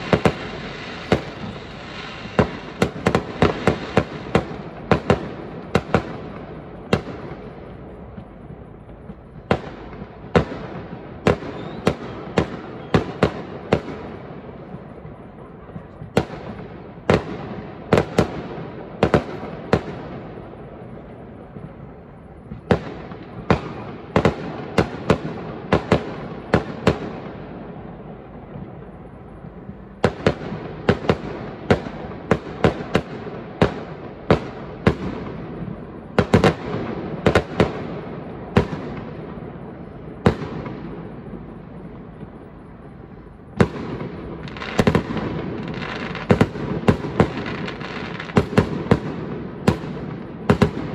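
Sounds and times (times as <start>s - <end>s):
fireworks bursting with sharp bangs: 0.0s - 50.9s.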